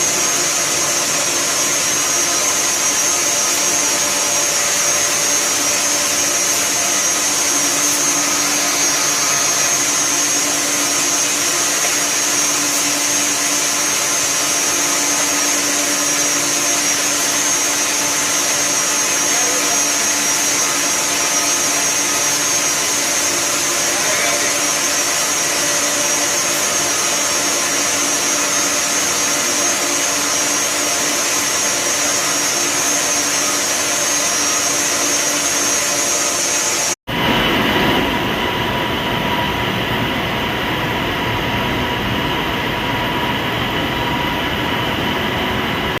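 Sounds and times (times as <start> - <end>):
high whine: 0.0 - 46.0.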